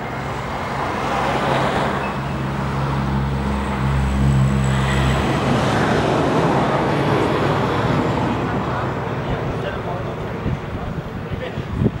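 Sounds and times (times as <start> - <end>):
passing traffic rush: 0.0 - 12.0
vehicle engine hum: 0.0 - 12.0.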